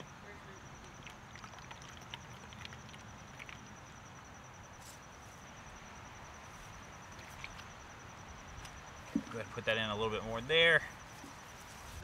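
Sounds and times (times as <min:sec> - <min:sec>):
insect trill: 0:00.0 - 0:12.0.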